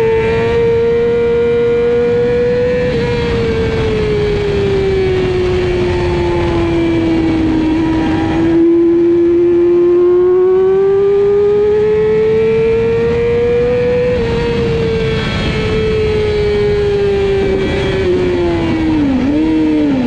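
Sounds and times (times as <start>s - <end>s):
motorcycle engine at high revs: 0.0s - 20.0s
wind and road noise: 0.0s - 20.0s.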